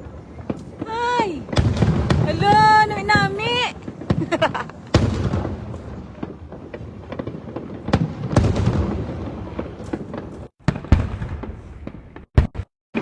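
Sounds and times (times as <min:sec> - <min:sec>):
fireworks crackle: 0:00.0 - 0:12.3
fireworks bangs and booms: 0:00.0 - 0:12.4.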